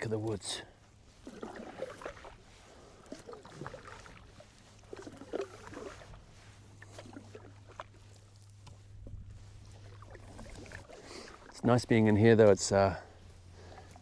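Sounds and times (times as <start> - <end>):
paddle splashing through water: 1.0 - 11.7, 13.2 - 14.0.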